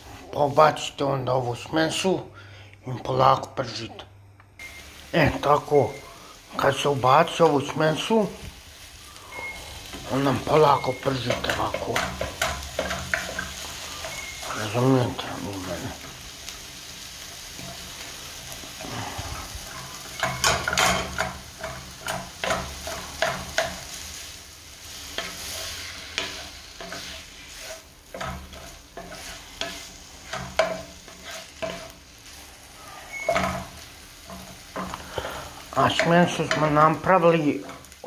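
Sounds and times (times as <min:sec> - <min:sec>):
meat frying with soft sizzle: 0:04.6 - 0:38.0
wooden spatula scraping a pan: 0:05.2 - 0:15.4, 0:17.4 - 0:38.0.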